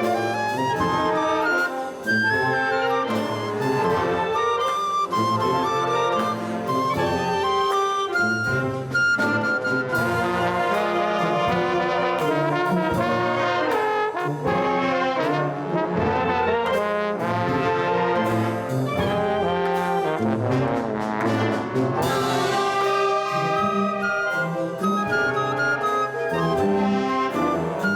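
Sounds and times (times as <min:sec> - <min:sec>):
brass band music: 0:00.0 - 0:27.9.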